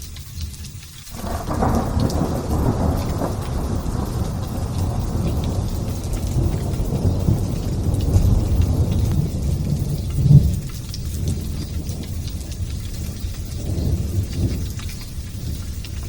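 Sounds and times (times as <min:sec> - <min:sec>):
light rain pattering: 0:00.0 - 0:16.0
thunder rumbling: 0:01.1 - 0:16.0.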